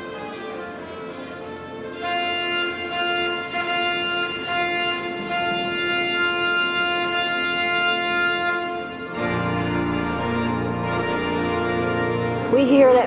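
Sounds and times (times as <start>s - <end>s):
organ playing held chords: 0.0s - 13.0s.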